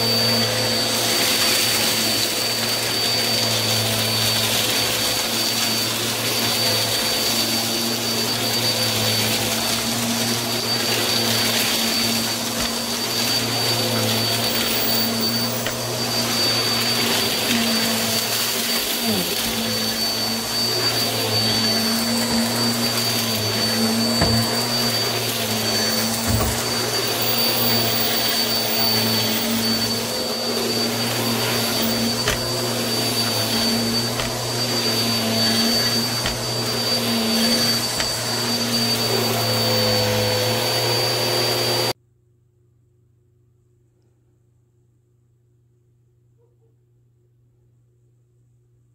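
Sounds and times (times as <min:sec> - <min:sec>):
vacuum cleaner running: 0:00.0 - 0:42.0.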